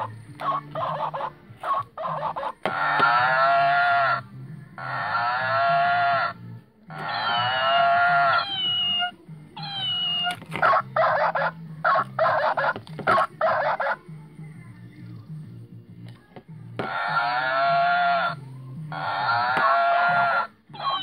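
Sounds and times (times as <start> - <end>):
toy animal cries: 0.0 - 14.0, 16.8 - 21.0.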